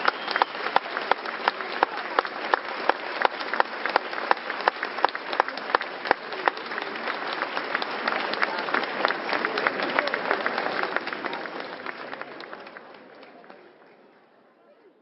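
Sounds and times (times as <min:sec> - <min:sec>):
close hands clapping steadily: 0:00.0 - 0:14.1
crowd applauding: 0:00.0 - 0:14.4.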